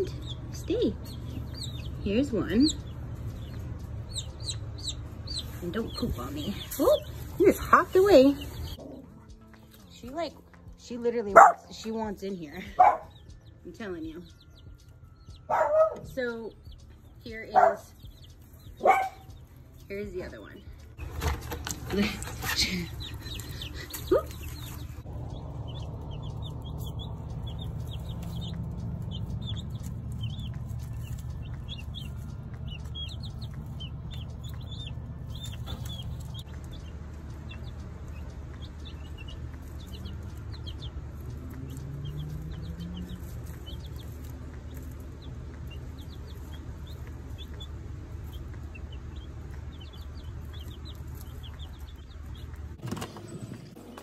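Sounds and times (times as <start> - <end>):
baby chicks peeping: 0.0 - 54.0
low hum: 0.0 - 54.0.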